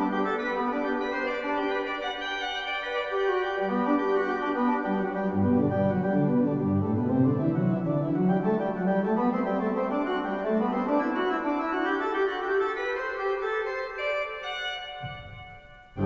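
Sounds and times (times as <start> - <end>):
pipe organ music: 0.0 - 16.0.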